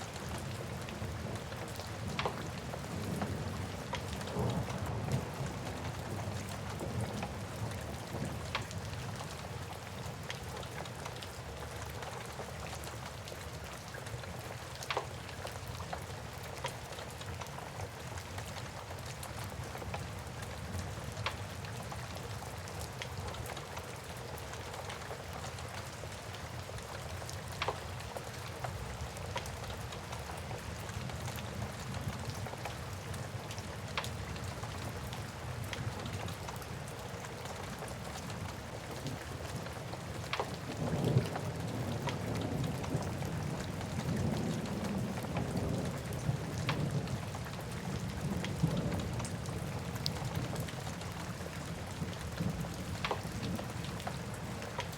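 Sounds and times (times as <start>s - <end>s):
steady rain hissing: 0.0s - 54.9s.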